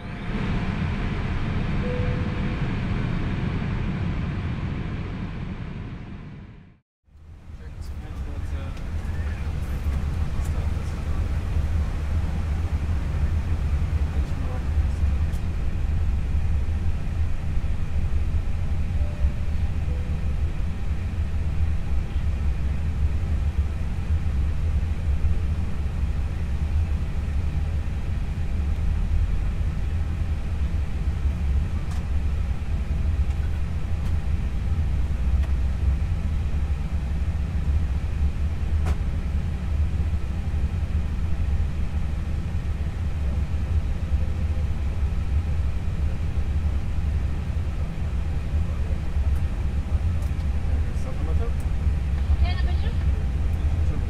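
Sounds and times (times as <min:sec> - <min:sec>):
faint steady tones hum: 0:00.0 - 0:06.5, 0:07.1 - 0:54.0
aircraft cockpit rumble: 0:00.0 - 0:54.0.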